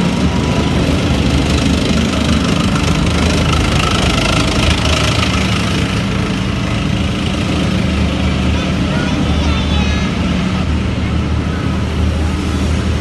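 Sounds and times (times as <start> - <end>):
tank engine and tracks passing: 0.0 - 13.0.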